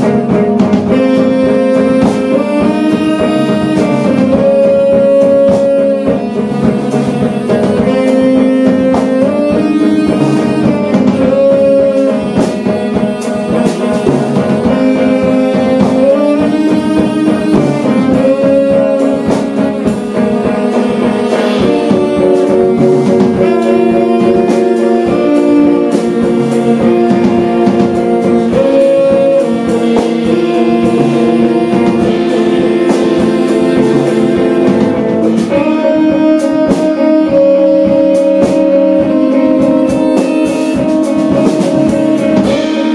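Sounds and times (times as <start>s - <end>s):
drum kit cymbal strokes: 0.0s - 42.9s
guitar: 0.0s - 42.9s
tenor saxophone long notes: 0.0s - 42.9s.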